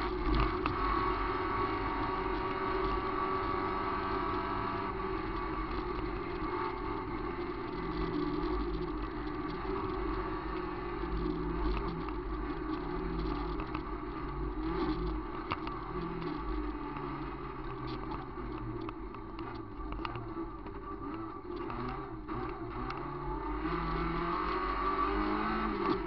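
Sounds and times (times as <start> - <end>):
car engine revving: 0.0 - 26.0
gravel striking car: 0.0 - 26.0
tyres rumbling on dirt road: 0.0 - 26.0.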